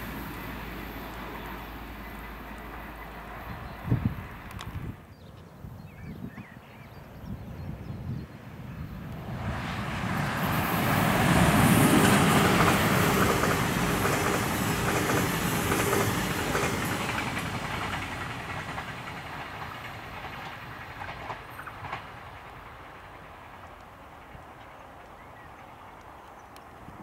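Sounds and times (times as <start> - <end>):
train passing: 0.0 - 5.1, 8.3 - 27.0.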